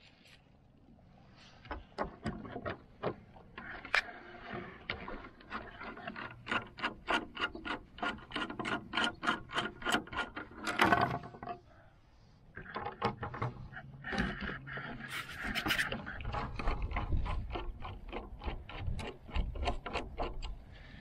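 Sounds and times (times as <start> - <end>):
plastic screen scraping on wood: 1.7 - 11.6, 12.5 - 20.6
tool and hardware clicks: 2.0 - 11.6, 12.6 - 20.6.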